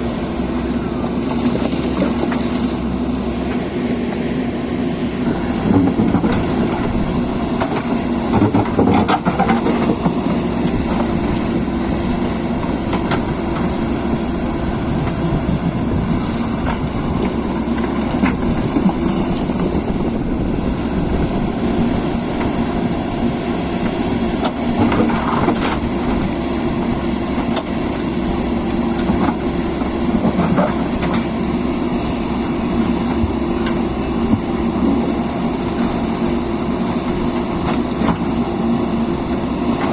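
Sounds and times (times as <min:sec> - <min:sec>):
diesel earthmoving machine running: 0:00.0 - 0:39.9.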